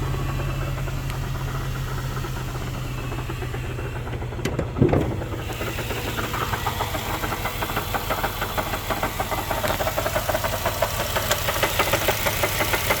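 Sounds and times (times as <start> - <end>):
car engine idling rough: 0.0 - 13.0
rapid clanking: 2.3 - 13.0.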